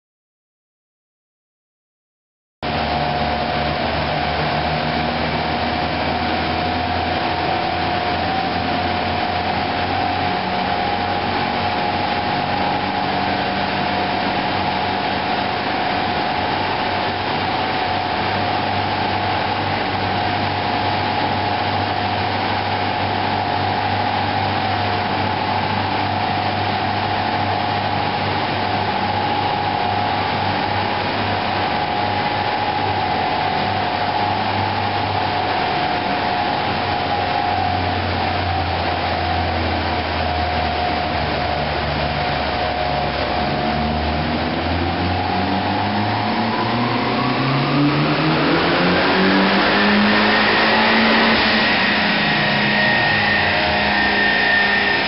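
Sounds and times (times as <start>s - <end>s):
constant whine: 2.6s - 55.0s
large cooling blower running: 2.6s - 55.0s.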